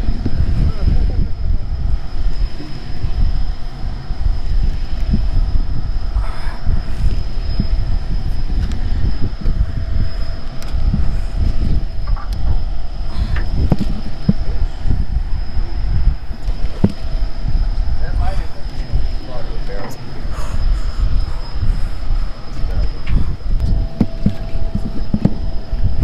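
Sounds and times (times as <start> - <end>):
boat engine low rumble: 0.0 - 26.0
faint high whine: 0.0 - 26.0.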